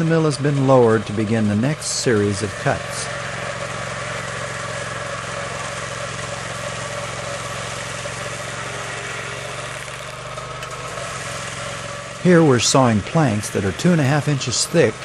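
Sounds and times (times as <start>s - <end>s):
circular saw blades cutting log: 0.0s - 15.0s
gas engine running under load: 0.0s - 15.0s.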